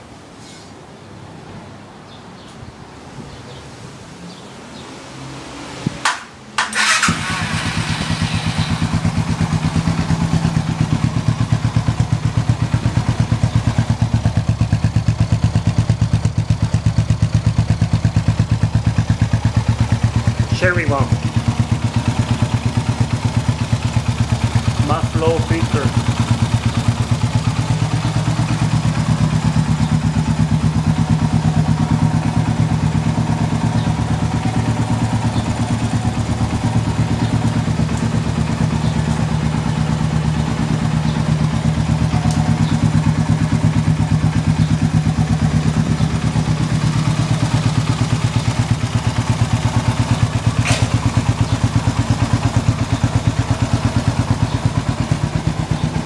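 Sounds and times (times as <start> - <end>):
motorcycle engine idling: 6.6 - 56.0.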